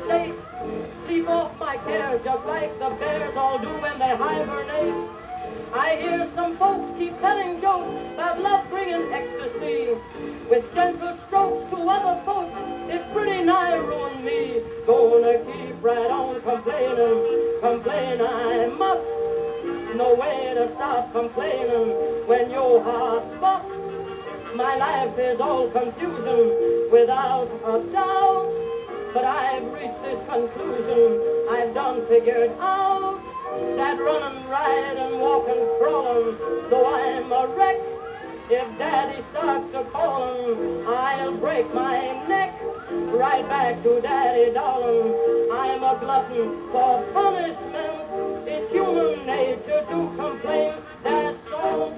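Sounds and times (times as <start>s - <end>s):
old record music on turntable: 0.0s - 51.9s.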